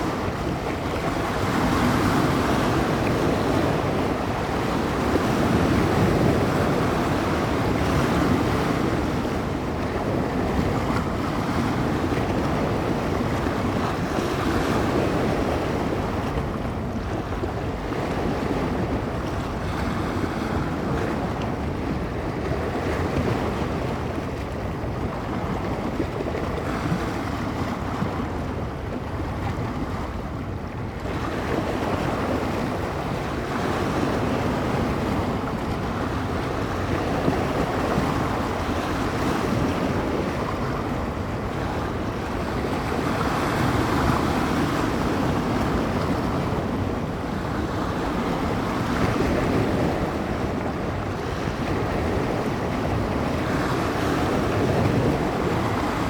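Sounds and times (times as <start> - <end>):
waves washing on shore: 0.0 - 56.0
wind buffeting microphone: 0.0 - 56.0.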